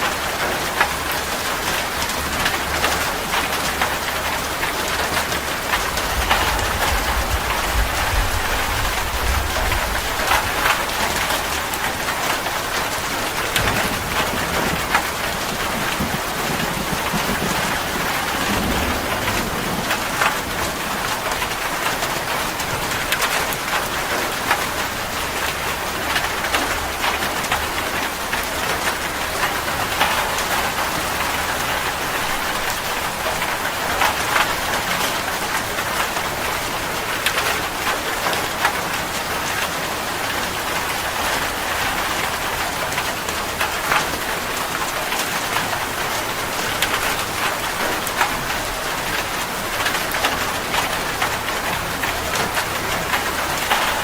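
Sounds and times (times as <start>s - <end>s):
rain drops ticking on a surface: 0.0s - 54.0s.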